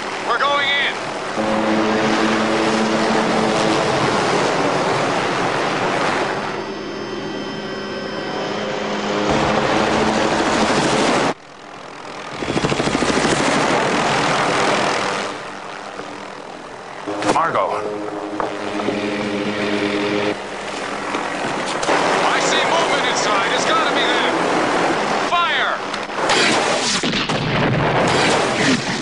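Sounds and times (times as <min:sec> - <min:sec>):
helicopter engine and rotor: 0:00.0 - 0:27.0.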